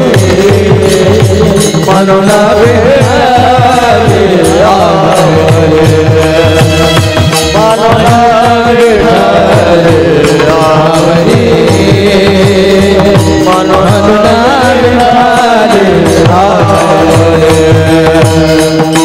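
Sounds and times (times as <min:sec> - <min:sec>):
person singing: 0:00.0 - 0:19.0.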